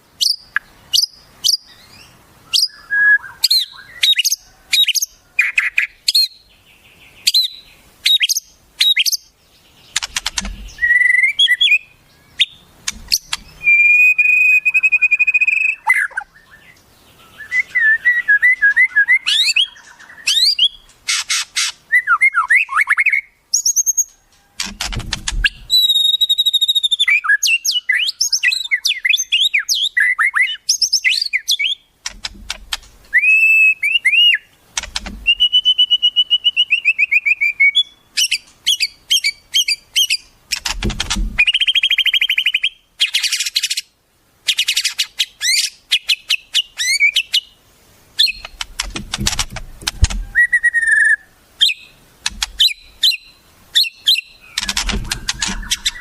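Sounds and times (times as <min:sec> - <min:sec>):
harsh rattling bird calls: 0:00.2 - 0:21.9, 0:22.5 - 0:56.0
songbird whistles and trills: 0:00.2 - 0:40.8, 0:41.4 - 0:47.6, 0:48.2 - 0:49.2, 0:49.9 - 0:56.0.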